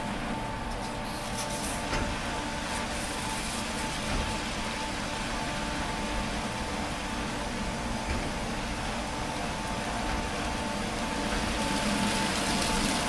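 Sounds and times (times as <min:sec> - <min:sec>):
steady humming tone: 0:00.0 - 0:13.0
car wash brushes and water: 0:00.7 - 0:13.0.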